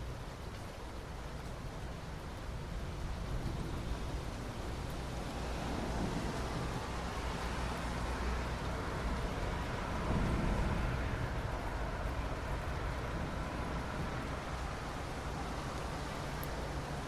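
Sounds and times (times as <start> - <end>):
rain falling on asphalt: 0.0 - 17.0.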